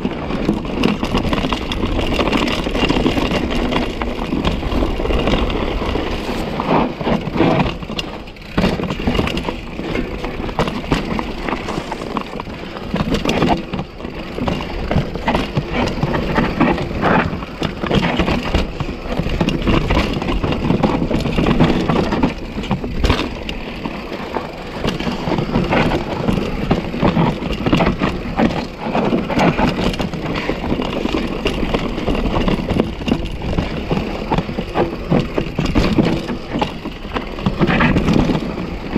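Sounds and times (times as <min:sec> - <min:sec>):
bike knocking and rattling: 0:00.0 - 0:38.9
bike tyres clattering over dirt: 0:00.0 - 0:38.9.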